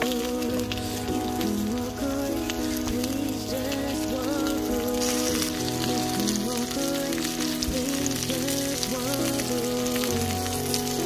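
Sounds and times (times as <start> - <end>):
background music: 0.0 - 11.0
chicken sizzling in a skillet: 0.0 - 11.0.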